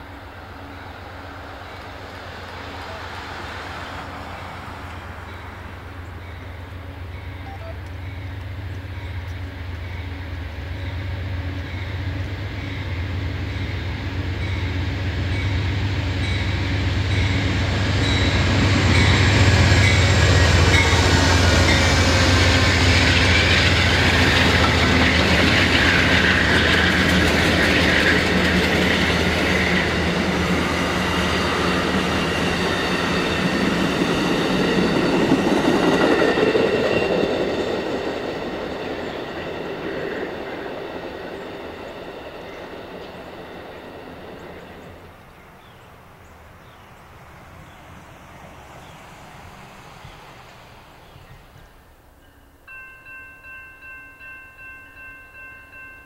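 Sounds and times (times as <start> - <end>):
train wheels rolling on rails: 0.0 - 52.3
diesel locomotive engine hum: 0.0 - 56.0.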